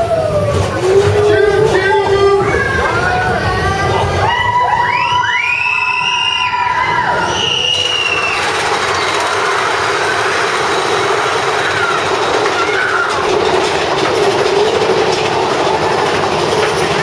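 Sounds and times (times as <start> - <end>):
roller coaster rumbling on rails: 0.0 - 17.0.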